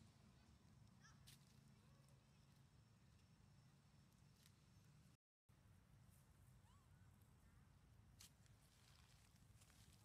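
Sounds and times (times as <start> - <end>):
faint outdoor hum: 0.0 - 10.0.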